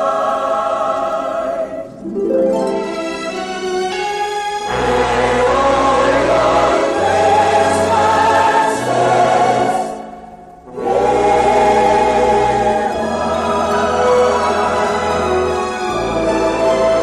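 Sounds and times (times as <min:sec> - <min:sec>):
choral singing music: 0:00.0 - 0:17.0.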